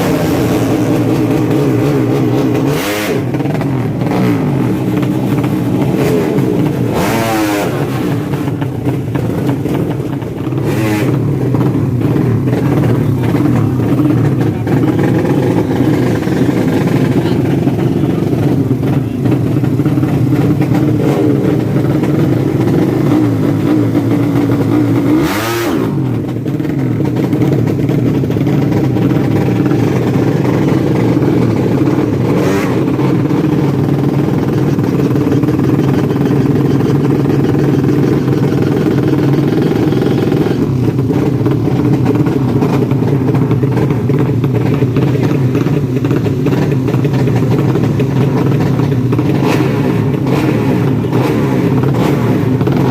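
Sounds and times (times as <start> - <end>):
motorbike engine revving: 0.0 - 52.9.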